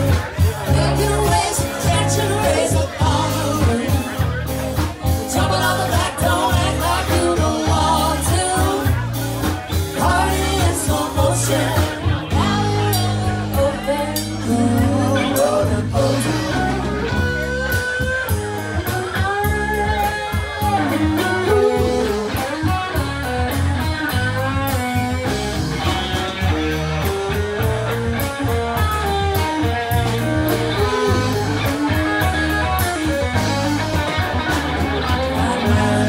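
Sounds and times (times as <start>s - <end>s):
bass guitar: 0.0s - 36.0s
drum kit beat on cymbals: 0.0s - 36.0s
electric guitar melody: 0.0s - 36.0s.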